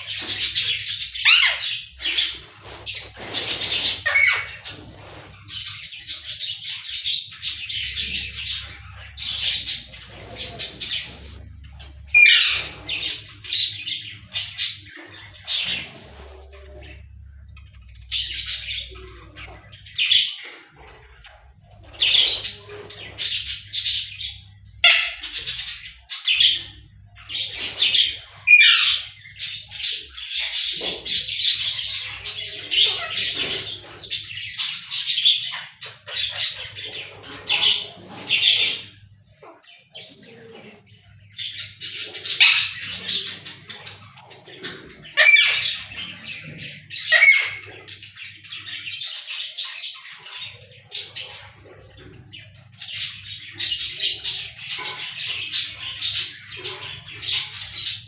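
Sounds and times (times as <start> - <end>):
parrots chirping and squawking: 0.0 - 58.0.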